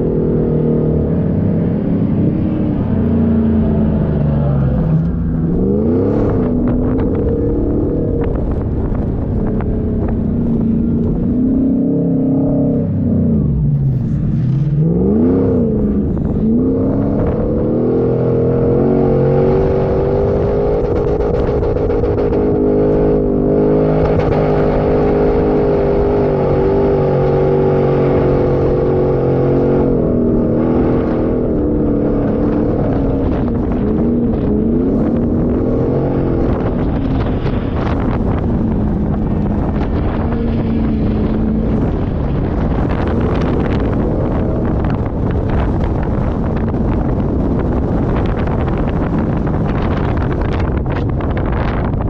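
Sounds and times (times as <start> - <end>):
engine revving: 0.0 - 52.0.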